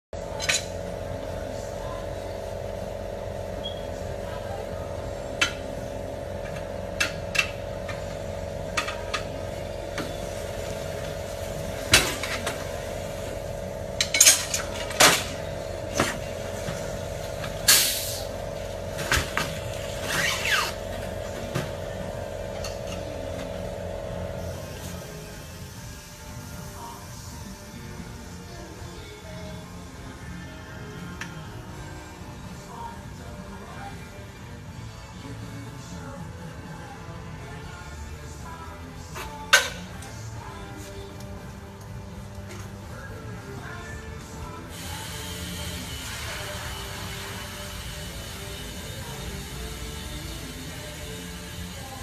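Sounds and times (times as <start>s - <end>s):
mechanical hum: 0.2s - 52.0s.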